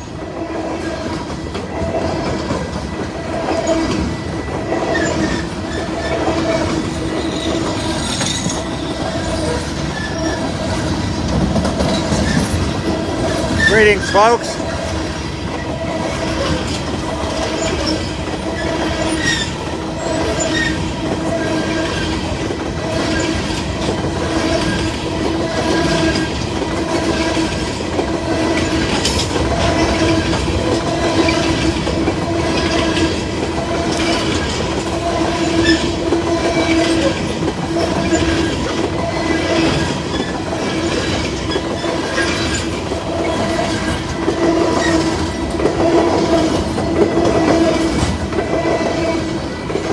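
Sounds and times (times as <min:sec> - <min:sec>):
ringing tone from wheels on rail: 0:00.0 - 0:49.9
train wheels clacking over rail joints: 0:00.0 - 0:49.9.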